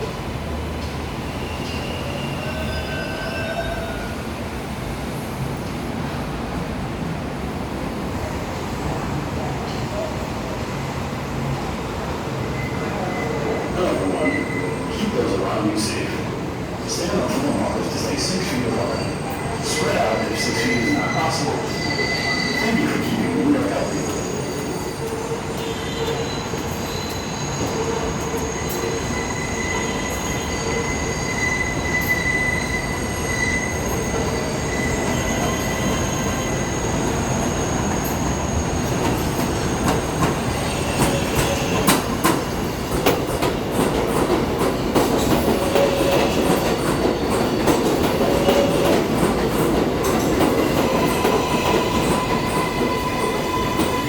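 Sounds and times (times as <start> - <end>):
subway train rumbling: 0.0 - 54.0
wheels squealing on rails: 1.0 - 4.4, 12.3 - 16.2, 16.9 - 54.0.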